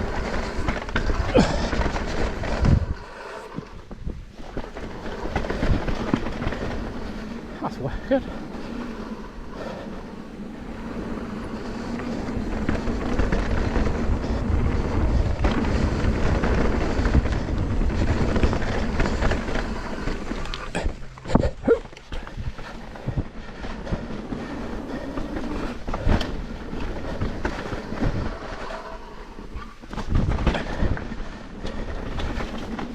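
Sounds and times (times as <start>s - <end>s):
bike rattling: 0.0s - 32.9s
bike tyres rolling on trail: 0.0s - 32.9s
wind: 0.0s - 32.9s.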